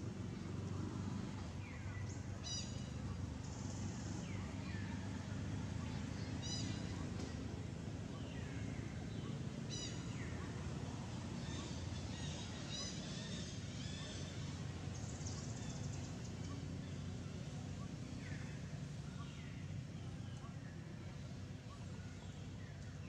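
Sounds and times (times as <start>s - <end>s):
birds calling with falling chirps: 1.6s - 5.2s, 5.9s - 10.6s, 11.2s - 23.0s.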